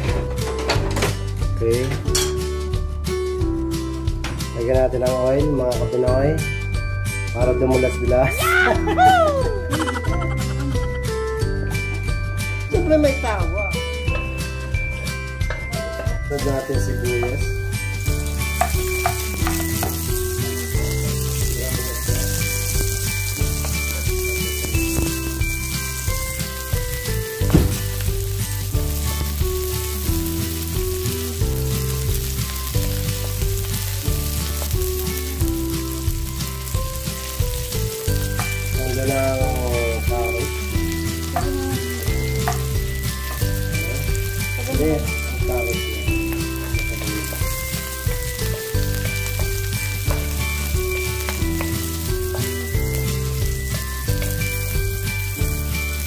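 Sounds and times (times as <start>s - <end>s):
background music: 0.0s - 56.0s
food sizzling in hot oil: 0.0s - 56.0s.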